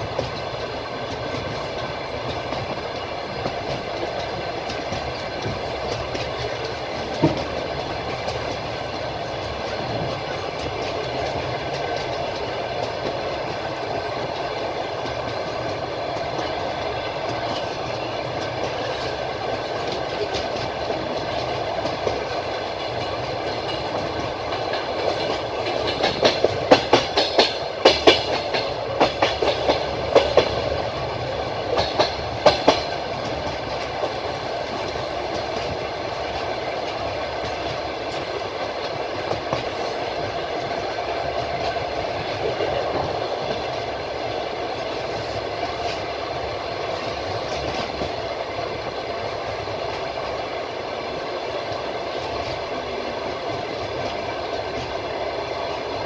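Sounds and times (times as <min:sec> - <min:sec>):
train rumbling on track: 0:00.0 - 0:56.0
train wheels clacking: 0:00.0 - 0:56.0.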